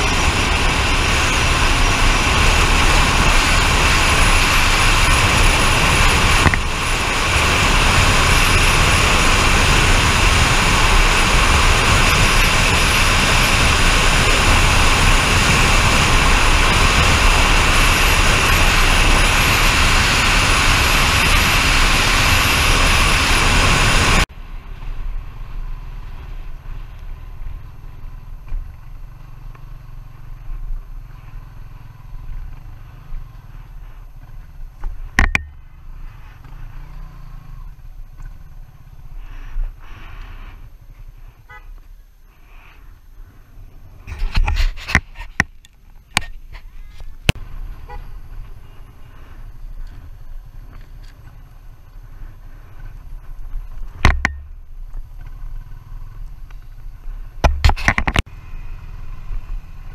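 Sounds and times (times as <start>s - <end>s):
vehicle wind and road noise: 0.0s - 59.9s.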